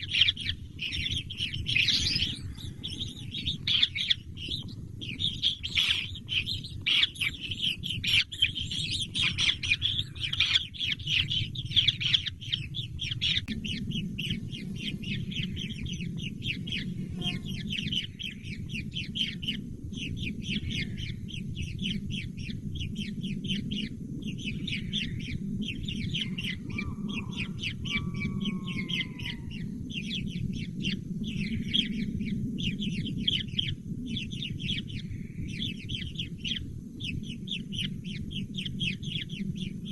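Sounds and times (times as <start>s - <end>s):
bird chicks chirping: 0.0s - 39.9s
steady low hum: 0.0s - 39.9s.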